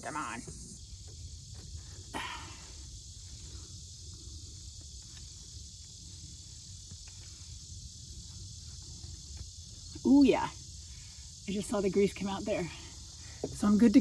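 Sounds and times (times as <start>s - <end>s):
insect chorus droning: 0.0s - 14.0s.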